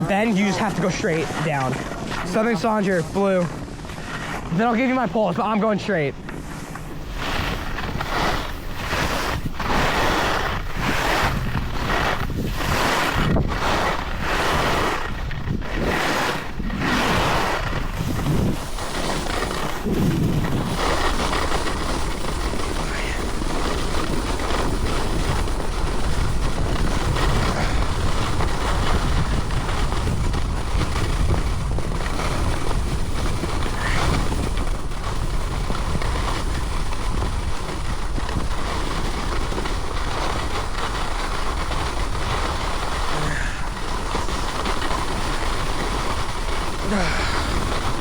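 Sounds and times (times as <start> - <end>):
skis sliding over snow: 0.0 - 48.0
wind buffeting microphone: 0.0 - 48.0.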